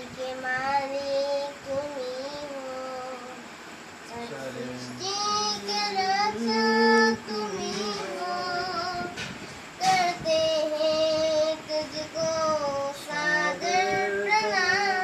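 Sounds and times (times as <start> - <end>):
boy singing a hymn: 0.0 - 15.0.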